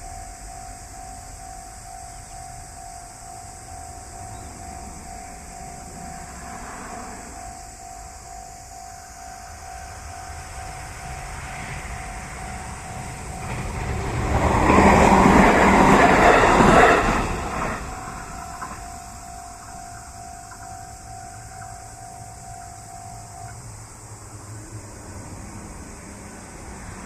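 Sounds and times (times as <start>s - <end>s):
level crossing warning bell: 0.0s - 24.1s
electric train passing: 0.0s - 27.0s.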